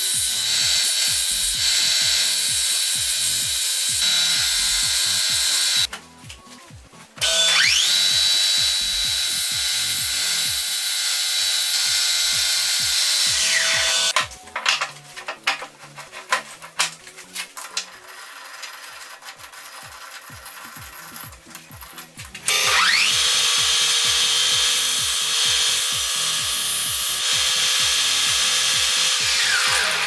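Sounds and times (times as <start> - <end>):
power tool whining: 0.0 - 5.9, 7.2 - 14.7, 18.3 - 30.0.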